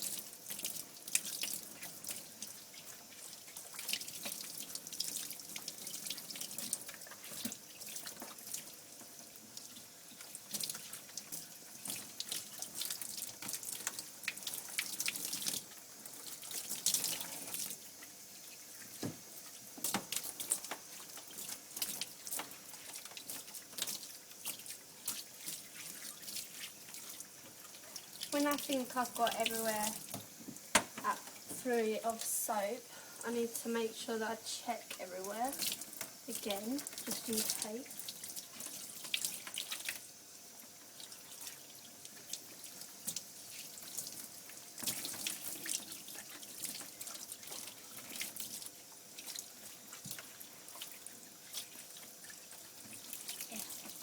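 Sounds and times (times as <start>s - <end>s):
running water splashing in a bath: 0.0s - 54.0s
water drips and splashes: 0.0s - 54.0s.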